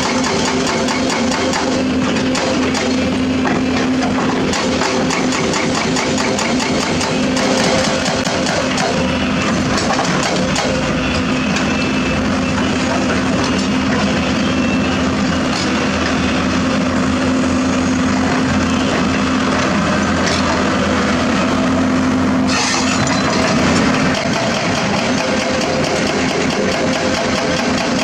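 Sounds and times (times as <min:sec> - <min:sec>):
excavator diesel engine humming: 0:00.0 - 0:28.0.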